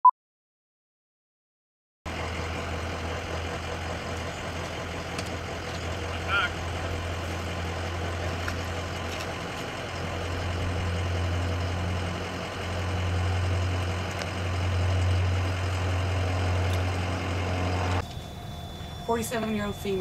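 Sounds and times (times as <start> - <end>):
engine idling: 2.1 - 20.0.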